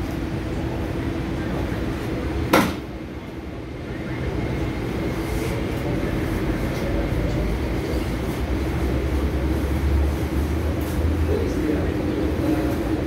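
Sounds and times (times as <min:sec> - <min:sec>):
faint train whine: 0:00.0 - 0:13.0
train interior rumble and hum: 0:00.0 - 0:13.0.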